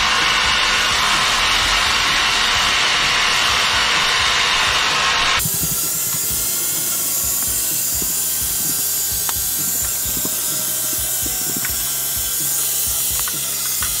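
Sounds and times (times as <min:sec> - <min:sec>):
pressure washer running: 0:00.0 - 0:14.0
water jet hissing on wood: 0:00.0 - 0:14.0.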